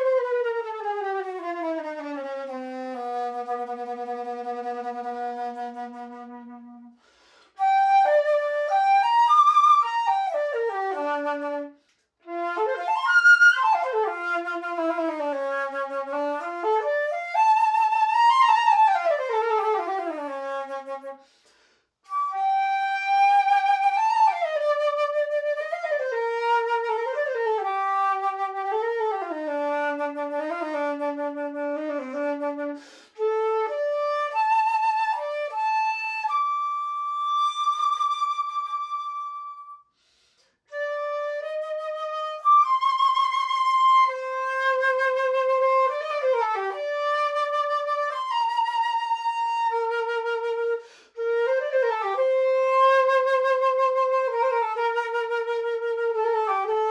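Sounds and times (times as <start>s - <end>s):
solo flute melody: 0.0s - 56.9s.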